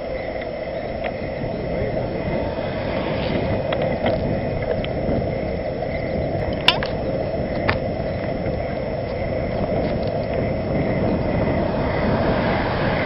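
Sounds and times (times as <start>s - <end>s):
bicycle tyre hum on asphalt: 0.0s - 13.0s
wind on microphone: 0.0s - 13.0s.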